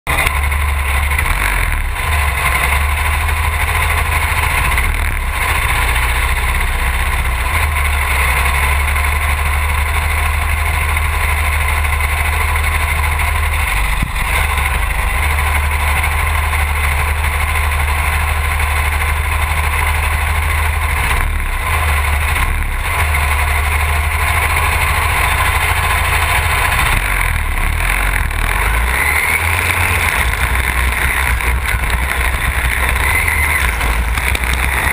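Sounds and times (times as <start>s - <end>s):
lawn mower engine idling: 0.0s - 34.9s.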